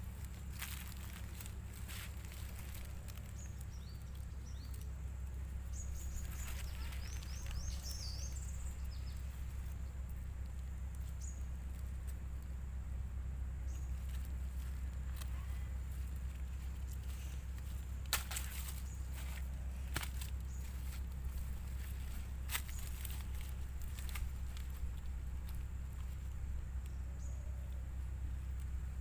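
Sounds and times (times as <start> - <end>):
birds chirping: 0.0 - 29.0
dry leaves rustling and crackling: 0.0 - 29.0
steady low rumble: 0.0 - 29.0.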